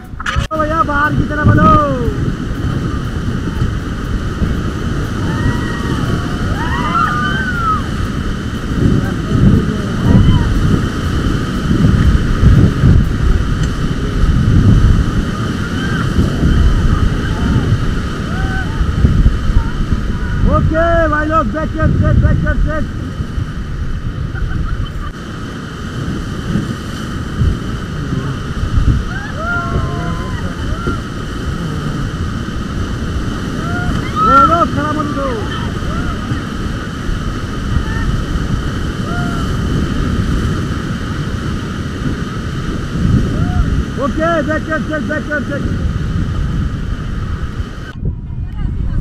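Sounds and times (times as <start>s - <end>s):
whitewater rapids rushing: 0.0s - 47.9s
wind buffeting microphone: 0.0s - 49.0s.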